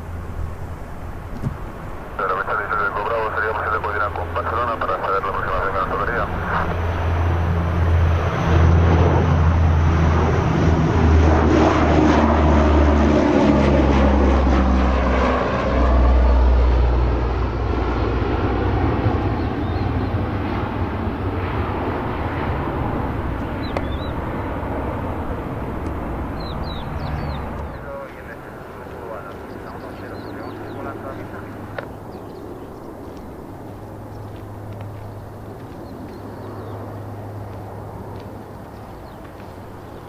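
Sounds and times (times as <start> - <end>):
propeller aircraft engines droning: 0.0 - 40.0.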